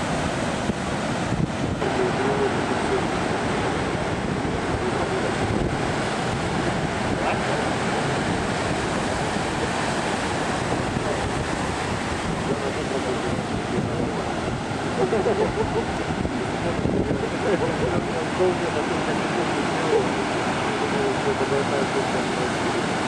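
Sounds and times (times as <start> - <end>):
surf crashing over rocks: 0.0 - 23.0.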